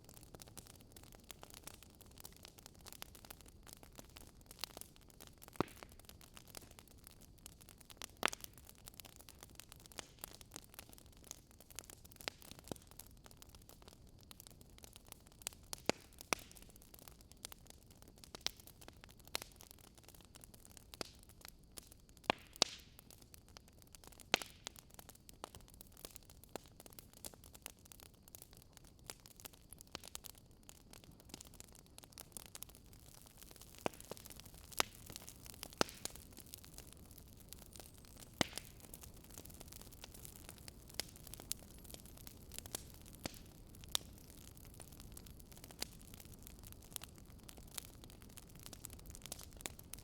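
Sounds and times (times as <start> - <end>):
firewood crackling and popping: 0.0 - 50.0.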